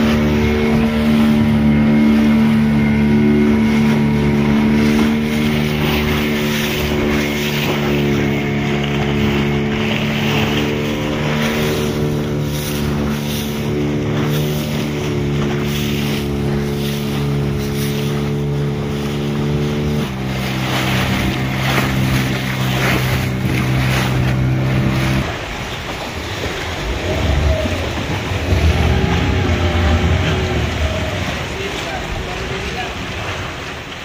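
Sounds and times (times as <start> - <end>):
motorboat engine running: 0.0 - 34.0
water noise: 0.0 - 34.0
wind: 0.0 - 34.0.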